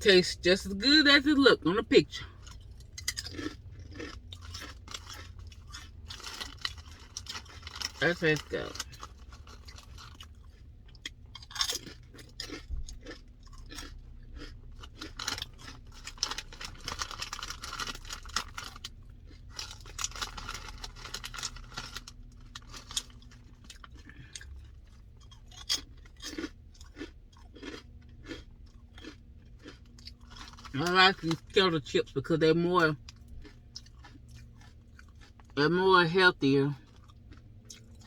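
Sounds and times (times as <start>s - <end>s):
person chewing and crunching food: 0.0s - 38.0s.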